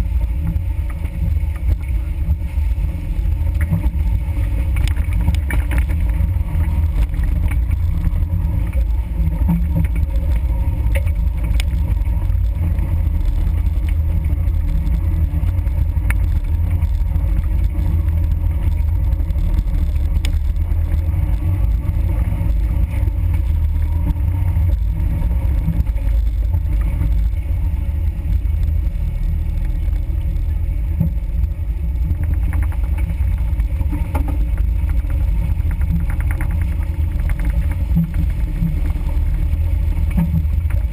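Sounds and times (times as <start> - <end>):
engine rumble on rough trail: 0.0 - 40.9
vehicle jostling on bumpy ground: 0.0 - 40.9.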